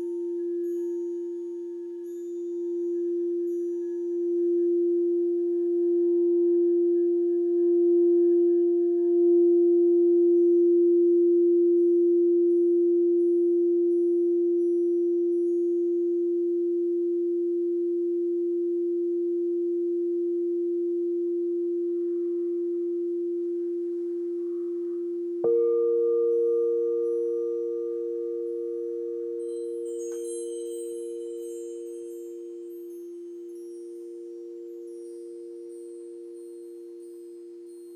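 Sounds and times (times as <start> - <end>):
crystal singing bowl tone: 0.0 - 37.9.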